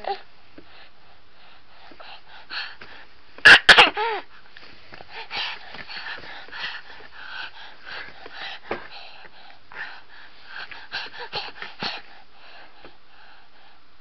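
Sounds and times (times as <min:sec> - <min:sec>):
soft breathy huffs: 0:00.0 - 0:03.3, 0:04.2 - 0:14.0.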